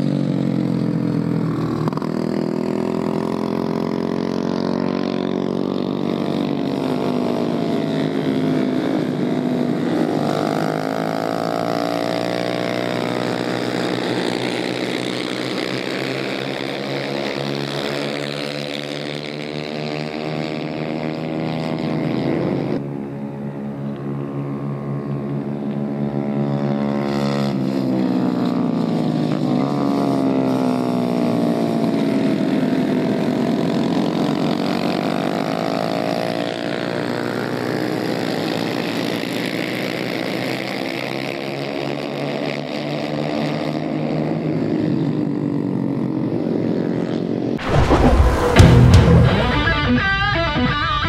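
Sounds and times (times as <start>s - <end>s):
racing motorcycle engines buzzing: 0.0s - 51.0s.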